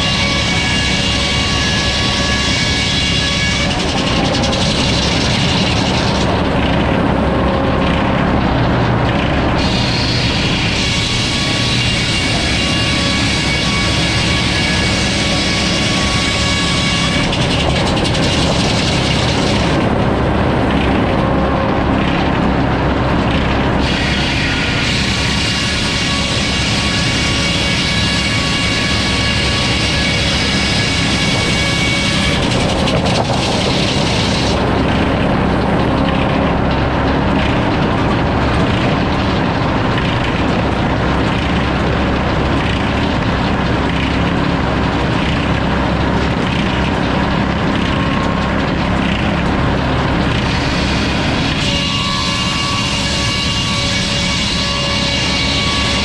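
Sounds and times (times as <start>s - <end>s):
sawmill machine running: 0.0s - 56.0s.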